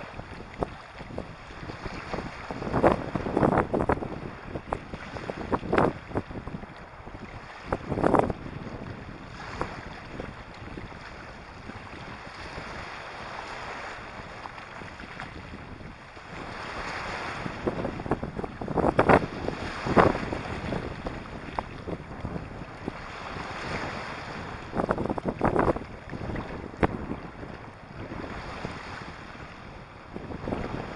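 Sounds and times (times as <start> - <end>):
waves washing over pebbles: 0.0 - 30.9
wind buffeting microphone: 0.0 - 30.9.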